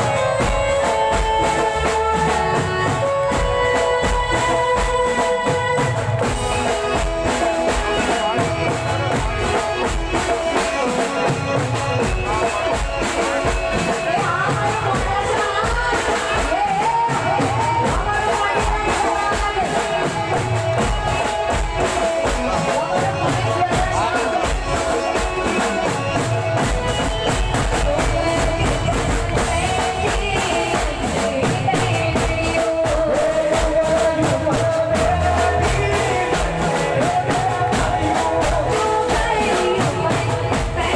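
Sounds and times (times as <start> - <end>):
fast percussion: 0.0 - 40.9.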